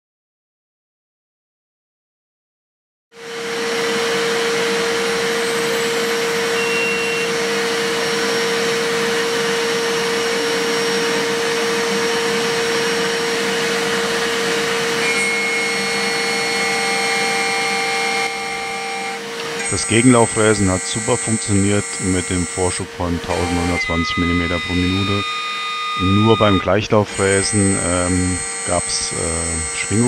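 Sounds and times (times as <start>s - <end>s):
cutter cutting steel: 3.2s - 30.0s
milling machine spindle humming: 3.2s - 30.0s.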